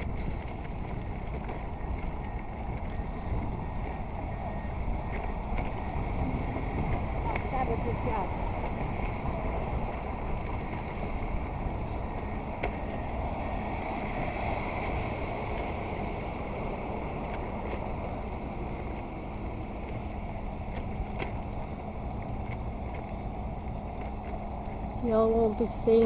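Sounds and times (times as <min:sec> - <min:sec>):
low hum: 0:00.0 - 0:26.0
street traffic rumble: 0:00.0 - 0:26.0.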